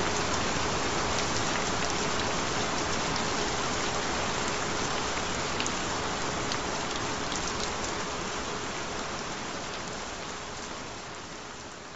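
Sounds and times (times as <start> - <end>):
steady rain hiss: 0.0 - 11.9.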